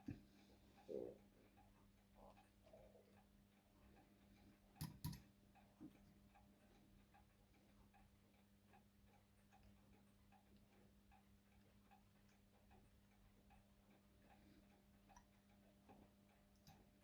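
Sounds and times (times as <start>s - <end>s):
clock ticking: 0.0s - 17.0s
low steady hum: 0.0s - 17.0s.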